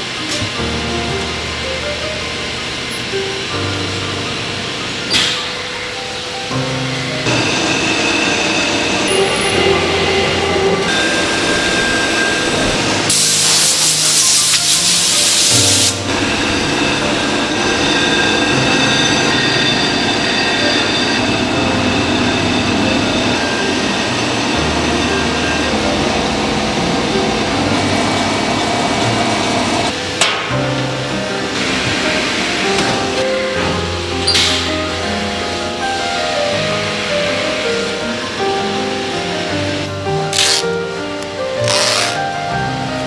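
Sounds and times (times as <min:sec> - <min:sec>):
warping machine running: 0:00.0 - 0:13.6, 0:15.5 - 0:43.0
loud hiss: 0:00.0 - 0:43.0.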